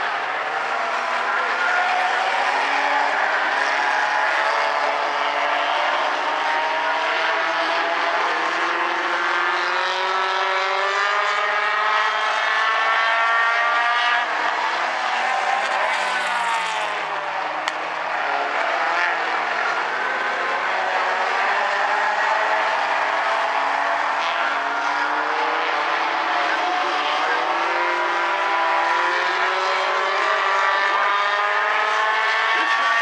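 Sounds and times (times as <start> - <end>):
race car engines accelerating: 0.0 - 33.0.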